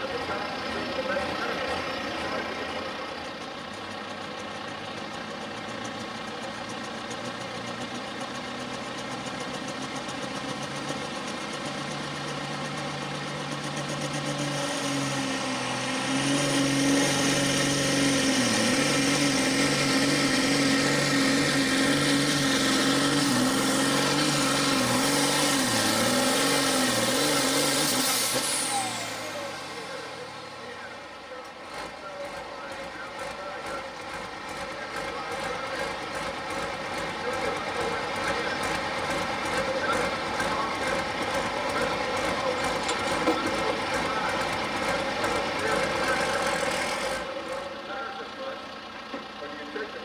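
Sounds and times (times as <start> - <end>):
tractor diesel engine revving: 0.0 - 50.0.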